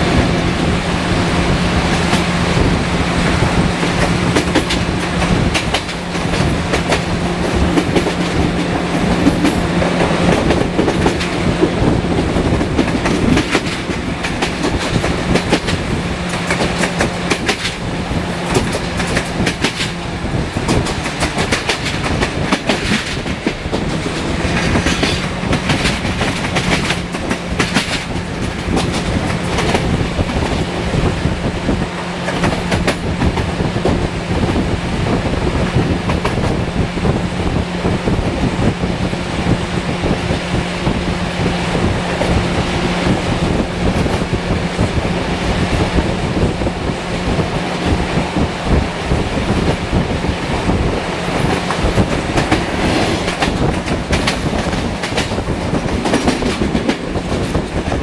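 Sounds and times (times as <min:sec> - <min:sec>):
train wheels clicking over joints: 0:00.0 - 0:38.8, 0:39.5 - 0:58.0
locomotive low drone: 0:00.0 - 0:58.0
train rolling rumble: 0:00.0 - 0:58.0.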